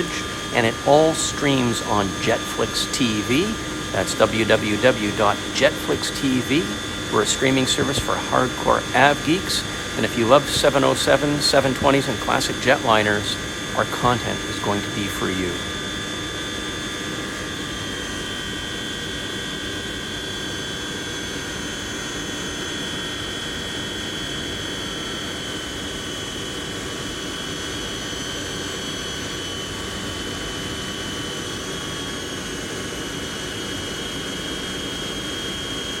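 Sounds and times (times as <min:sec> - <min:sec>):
jet engines at takeoff power: 0:00.0 - 0:36.0.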